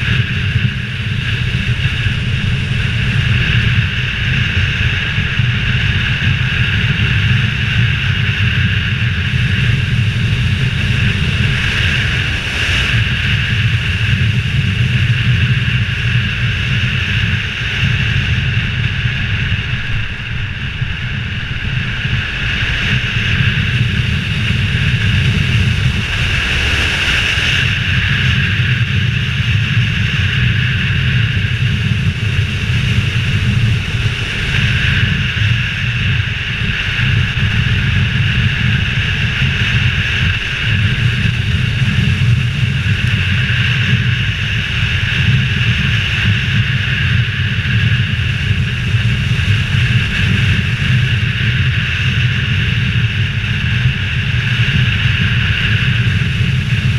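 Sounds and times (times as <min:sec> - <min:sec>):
motorcycle engine drone: 0:00.0 - 0:56.9
wind buffeting: 0:00.0 - 0:56.9.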